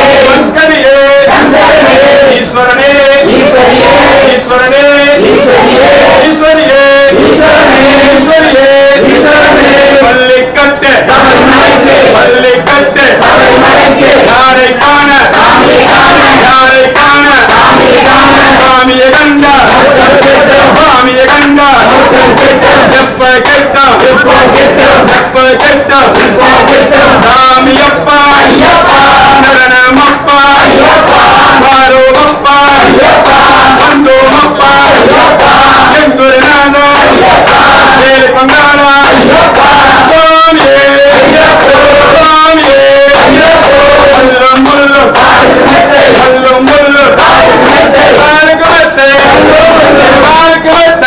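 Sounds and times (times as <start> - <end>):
men singing a devotional chant: 0.0 - 51.0.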